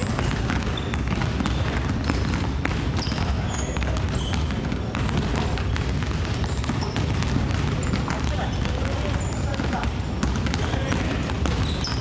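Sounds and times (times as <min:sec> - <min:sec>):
basketballs dribbling on wooden floor: 0:00.0 - 0:12.0.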